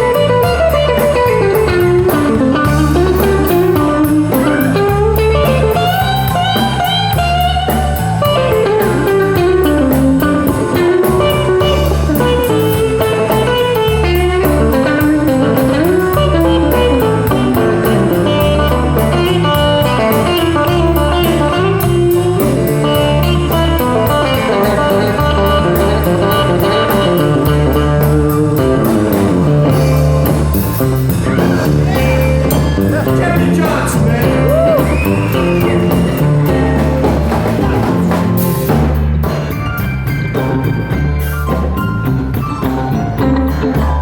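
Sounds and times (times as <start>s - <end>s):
bass line: 0.0s - 44.0s
drum beat: 0.0s - 44.0s
live blues band: 0.0s - 44.0s.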